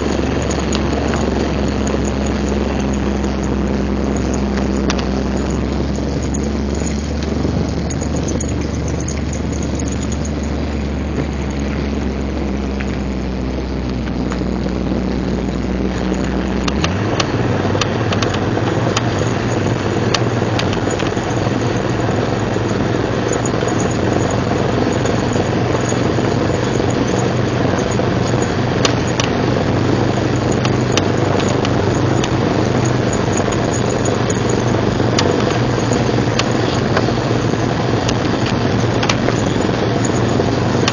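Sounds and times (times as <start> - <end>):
scattered clicks: 0.0 - 14.6, 15.5 - 40.9
car engine hum: 0.0 - 40.9
drivetrain drone: 0.0 - 40.9.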